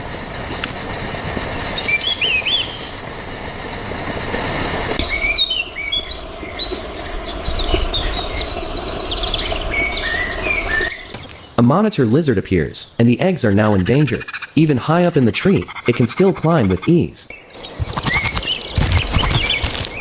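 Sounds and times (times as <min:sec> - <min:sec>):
outdoor background hiss: 0:00.0 - 0:18.8
small birds chirping: 0:01.5 - 0:03.1, 0:04.6 - 0:11.8, 0:12.7 - 0:20.0.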